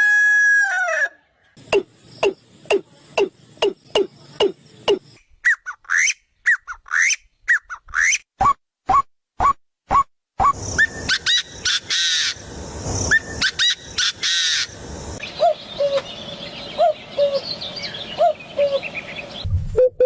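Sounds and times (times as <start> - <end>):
birds chirping and calling: 1.4 - 8.2, 10.5 - 19.7.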